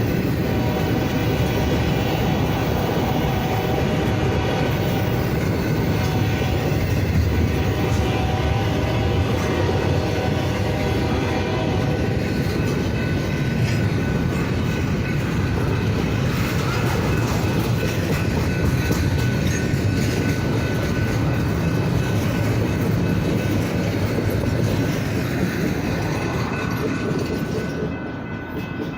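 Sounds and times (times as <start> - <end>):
train rumble: 0.0 - 28.9
train wheels clacking over rails: 0.0 - 28.9.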